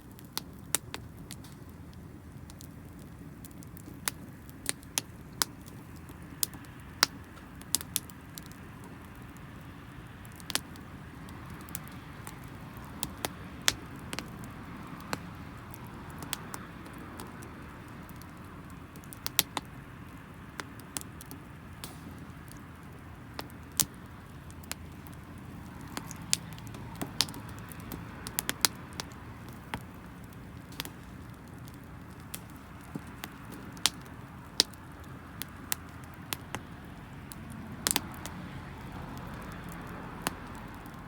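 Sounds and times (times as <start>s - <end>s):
low rumble of flames: 0.0s - 41.0s
wood fire crackling: 0.0s - 41.0s.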